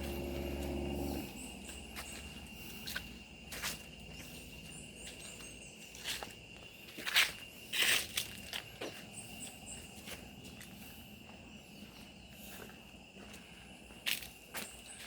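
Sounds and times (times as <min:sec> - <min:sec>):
footsteps on forest trail: 0:00.0 - 0:15.0
high-pitched insect drone: 0:00.0 - 0:15.0.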